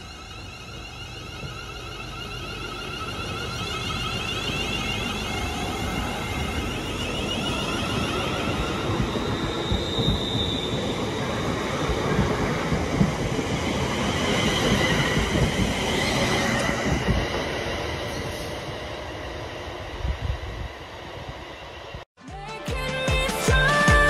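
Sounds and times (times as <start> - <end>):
high whining tones: 0.0 - 19.9
train wheels rumbling on rails: 0.0 - 22.0.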